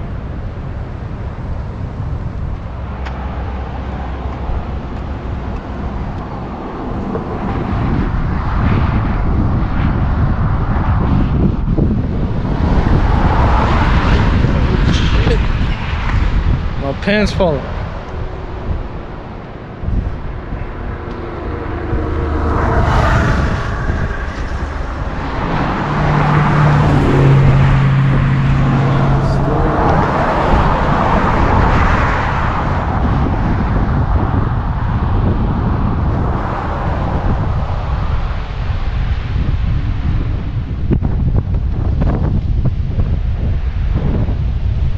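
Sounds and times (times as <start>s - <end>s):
car engine hum: 0.0s - 44.8s
cars passing on highway: 0.0s - 44.9s.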